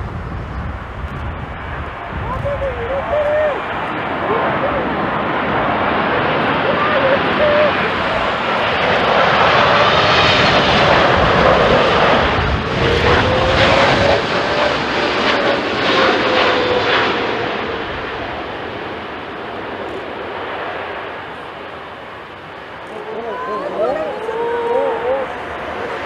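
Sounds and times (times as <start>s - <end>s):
jet airliner flying past: 0.0s - 26.0s.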